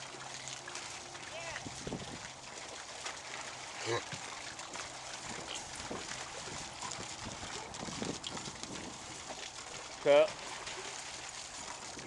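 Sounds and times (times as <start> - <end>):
outdoor background noise: 0.0 - 12.0
water sloshing: 0.0 - 12.0.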